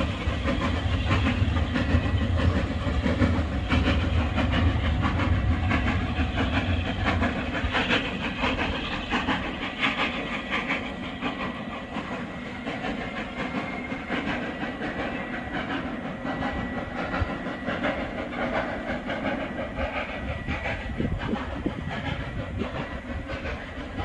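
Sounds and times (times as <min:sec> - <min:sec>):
irregular locomotive beats: 0:00.0 - 0:24.0
steam locomotive hissing: 0:00.0 - 0:24.0.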